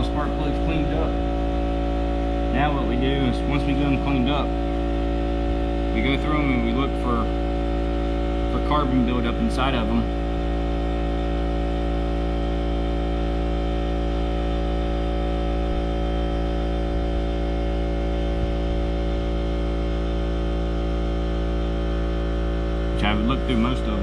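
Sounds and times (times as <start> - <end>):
steady hum of even tones: 0.0 - 24.0.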